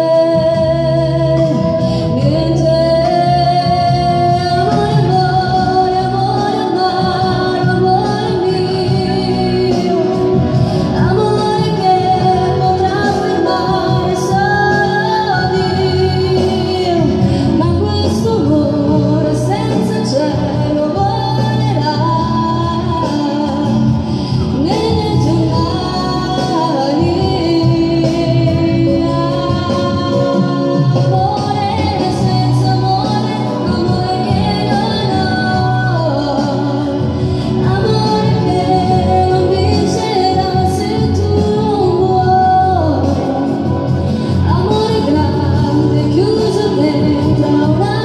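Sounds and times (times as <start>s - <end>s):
instrumental accompaniment: 0.0s - 48.0s
woman singing: 0.0s - 48.0s.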